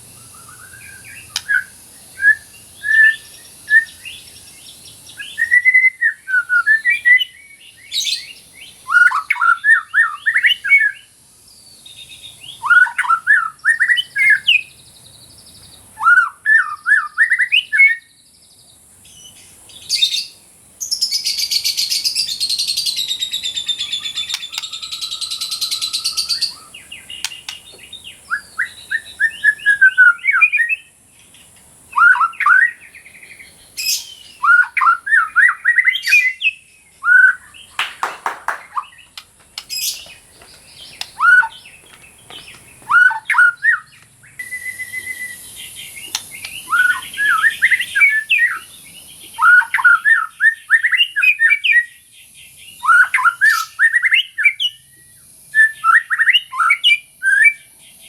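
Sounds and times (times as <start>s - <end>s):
bird whistling song: 0.0s - 18.2s, 19.0s - 57.8s.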